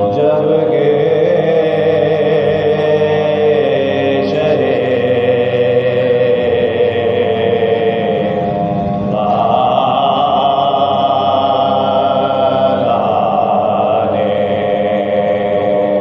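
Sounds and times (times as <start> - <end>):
group chanting a lament: 0.0 - 16.0.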